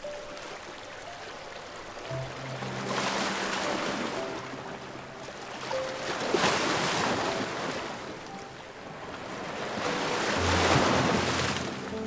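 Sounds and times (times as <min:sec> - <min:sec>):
ocean surf on sandy beach: 0:00.0 - 0:12.0.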